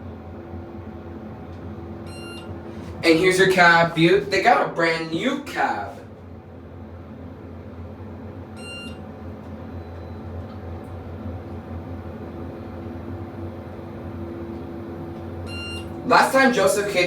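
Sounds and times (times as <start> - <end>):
elevator cab hum: 0.0 - 17.0.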